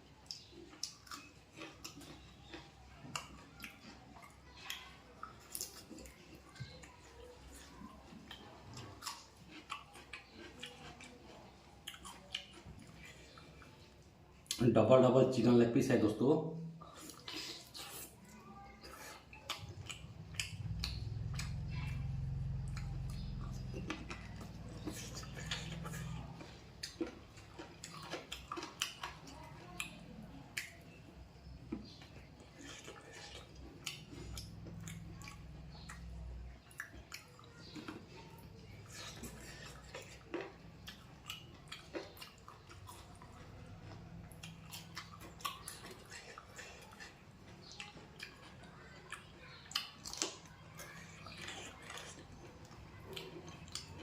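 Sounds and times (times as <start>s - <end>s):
person chewing with mouth smacks: 0.1s - 14.6s, 16.8s - 54.0s.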